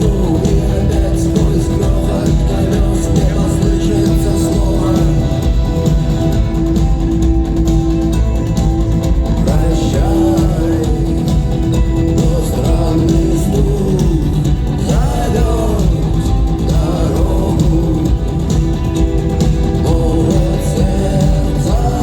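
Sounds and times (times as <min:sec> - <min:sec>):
person singing: 0:00.0 - 0:06.1, 0:09.4 - 0:22.0
rock band playing live: 0:00.0 - 0:22.0.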